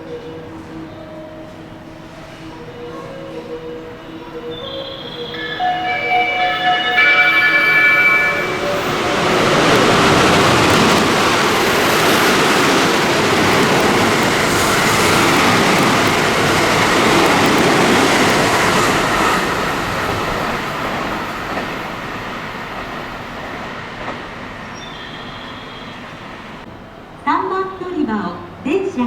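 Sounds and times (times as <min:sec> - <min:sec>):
electric train passing at speed: 0:00.0 - 0:29.0.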